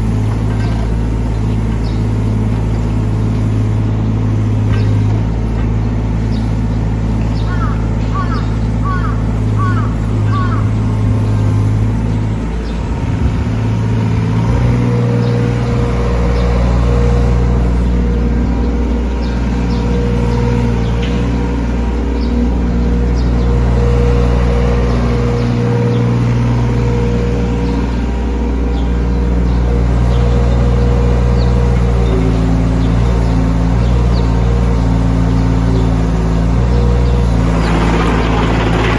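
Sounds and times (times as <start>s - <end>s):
excavator diesel engine humming: 0.0s - 38.9s.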